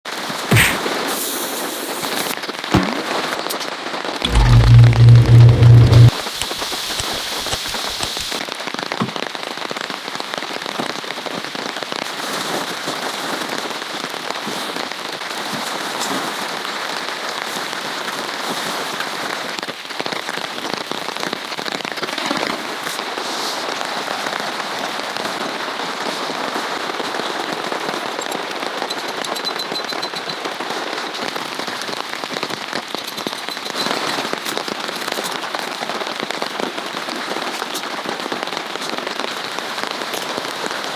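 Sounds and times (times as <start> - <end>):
rain falling: 1.4 - 40.9.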